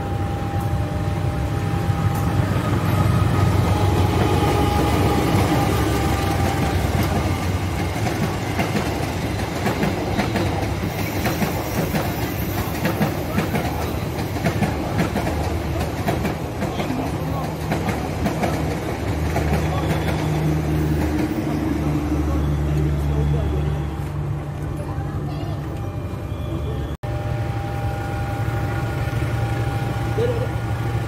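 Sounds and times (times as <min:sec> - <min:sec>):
locomotive engine drone: 0:00.0 - 0:31.0.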